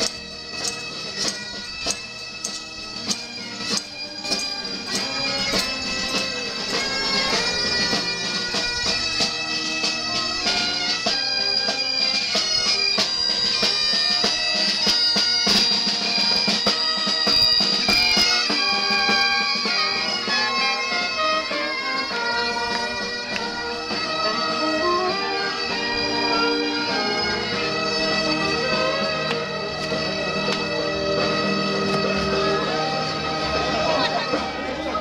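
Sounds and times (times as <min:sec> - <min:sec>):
steady drum beat: 0:00.0 - 0:34.8
bagpipes playing: 0:00.0 - 0:35.0
trumpet: 0:00.0 - 0:35.0.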